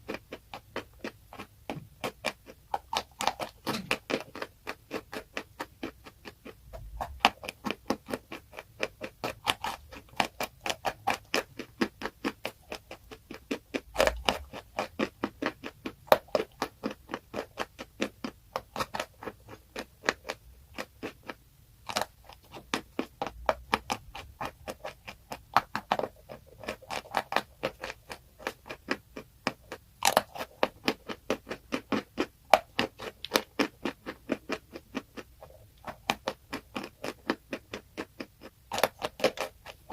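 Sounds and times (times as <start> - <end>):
crisp food crunching: 0.0 - 39.9.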